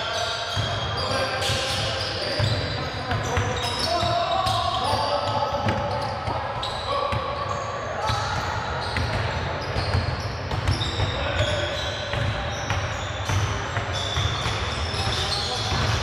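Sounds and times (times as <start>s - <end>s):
sneakers squeaking: 0.0s - 16.0s.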